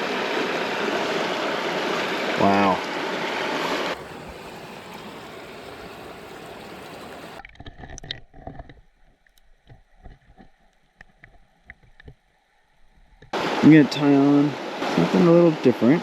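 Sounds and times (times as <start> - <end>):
flowing creek water: 0.0 - 7.6, 9.0 - 16.0.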